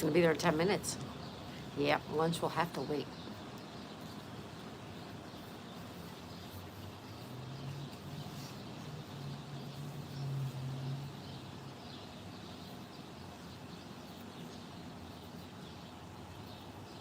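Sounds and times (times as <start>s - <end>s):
outdoor background noise: 0.0s - 17.0s
songbirds chirping: 0.0s - 17.0s.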